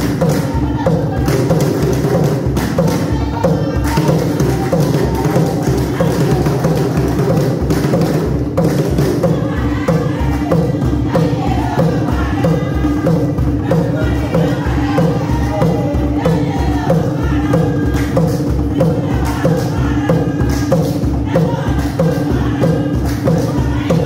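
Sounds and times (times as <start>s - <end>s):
group of voices singing and chanting: 0.0s - 24.0s
steady drumbeat: 0.0s - 24.0s.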